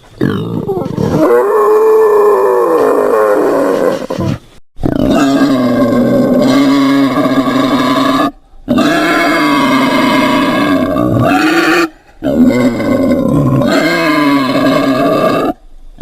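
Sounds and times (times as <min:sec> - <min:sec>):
wild boar calling: 0:00.2 - 0:15.6.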